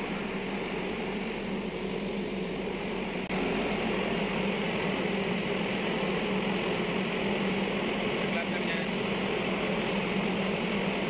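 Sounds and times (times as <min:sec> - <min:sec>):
even hiss: 0:00.0 - 0:11.0
ship machinery drone: 0:00.0 - 0:11.0.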